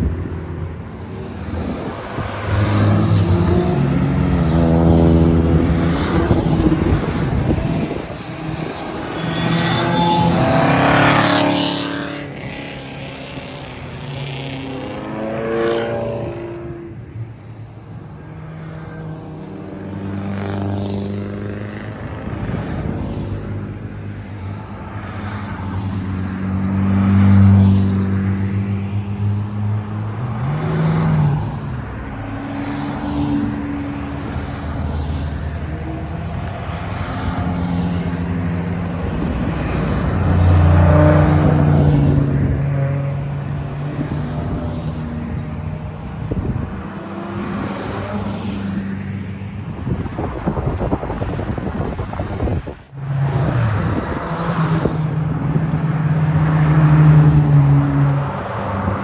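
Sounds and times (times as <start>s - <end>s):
car engines driving past: 0.0s - 59.0s.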